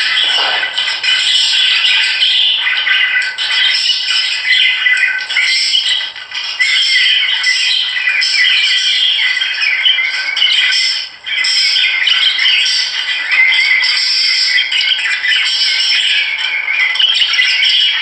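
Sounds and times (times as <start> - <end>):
flock of small birds chirping: 0.0 - 18.0.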